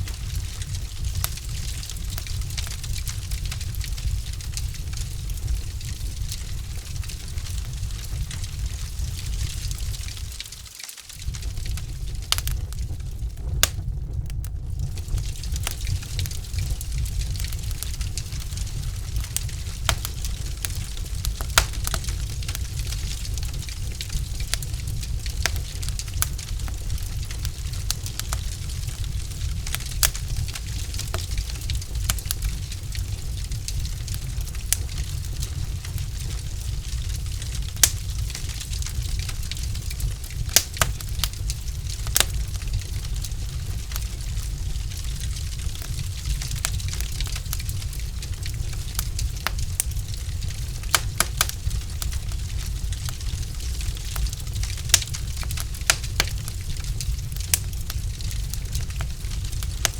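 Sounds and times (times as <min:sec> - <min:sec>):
fire crackling: 0:00.0 - 0:59.9
fire low rumble: 0:00.0 - 0:59.9
sharp pops of fire: 0:00.0 - 0:59.9.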